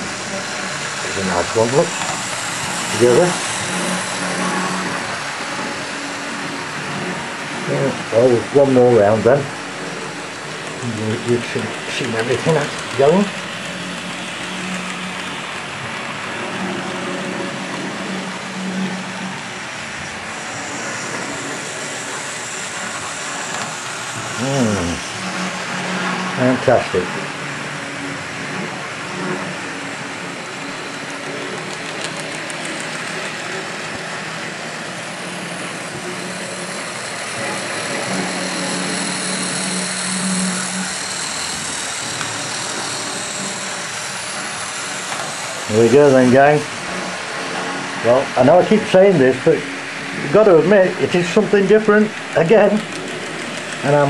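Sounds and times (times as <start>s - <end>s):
model train motors whirring: 0.0s - 54.0s.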